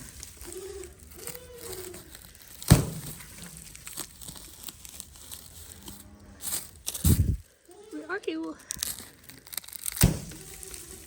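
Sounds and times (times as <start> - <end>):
faint rustling: 0.0 - 11.0.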